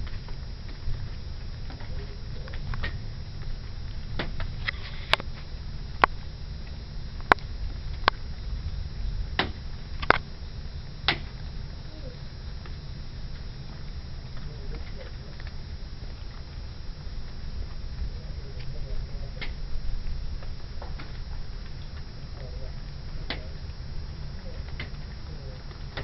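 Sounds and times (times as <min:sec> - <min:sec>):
low thunder rumble: 0:00.0 - 0:26.0.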